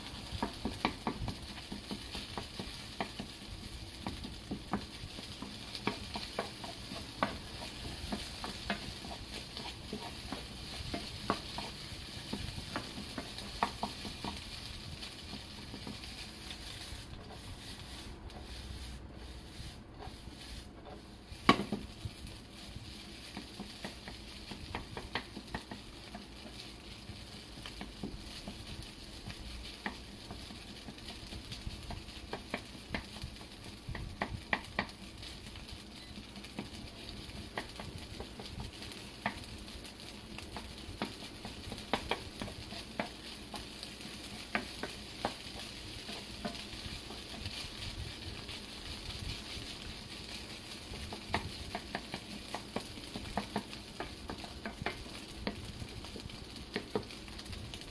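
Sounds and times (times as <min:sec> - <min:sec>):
rice sizzling in a frying pan: 0:00.0 - 0:57.9
spatula clicking against pan: 0:00.3 - 0:16.6, 0:23.2 - 0:35.4, 0:36.1 - 0:56.1.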